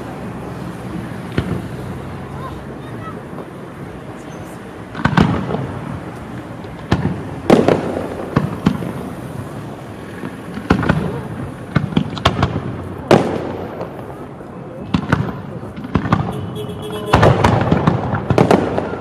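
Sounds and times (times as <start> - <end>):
fireworks bursting with echo: 0.0 - 19.0
fireworks crackling: 0.0 - 19.0.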